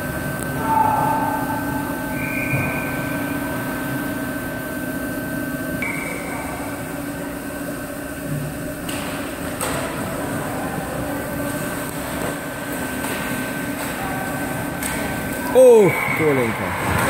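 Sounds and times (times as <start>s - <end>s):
arena hum: 0.0s - 17.0s.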